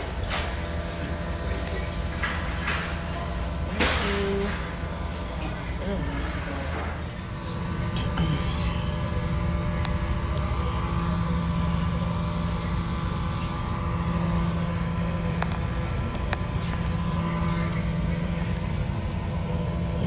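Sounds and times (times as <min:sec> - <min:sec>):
machine drone: 0:00.0 - 0:20.0.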